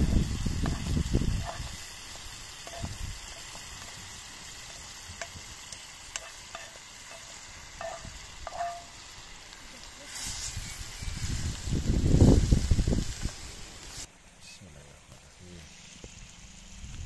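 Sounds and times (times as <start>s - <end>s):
vegetables sizzling in a pan: 0.0s - 14.4s, 15.6s - 17.0s.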